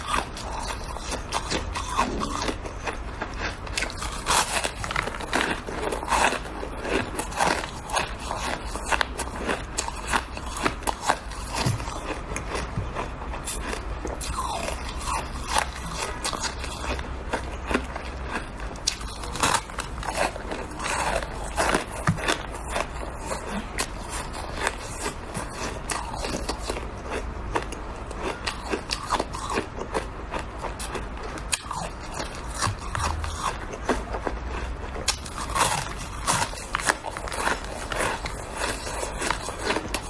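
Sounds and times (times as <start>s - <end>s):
ice crunching while chewed: 0.0s - 40.0s
steady low hum: 0.0s - 40.0s.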